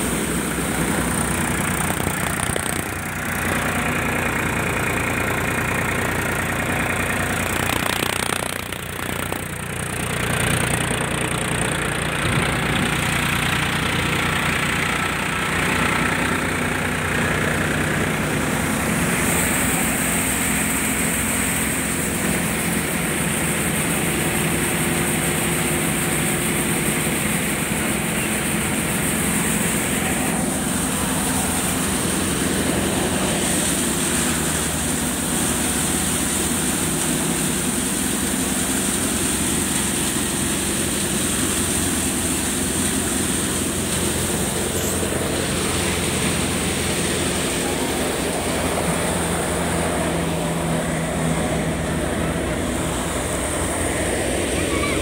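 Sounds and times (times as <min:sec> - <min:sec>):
thresher mechanical drone: 0:00.0 - 0:55.0.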